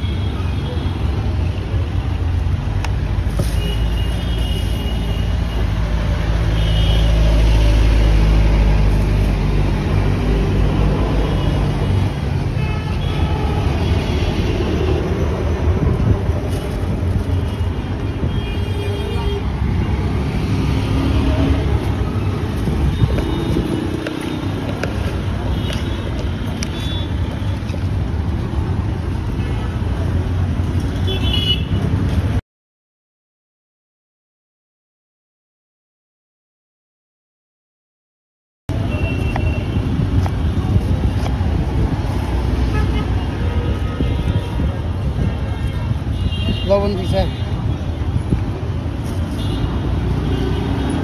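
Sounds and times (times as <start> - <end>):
low traffic rumble: 0.0 - 32.4, 38.7 - 51.0.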